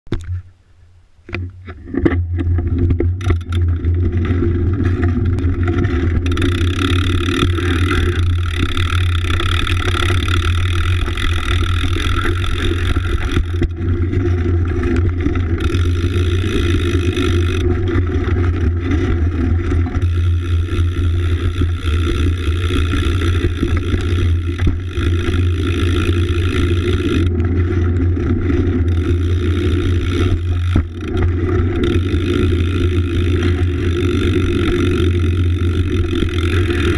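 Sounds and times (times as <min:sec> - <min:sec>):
bike riding rumble on wet pavement: 0:02.1 - 0:36.9.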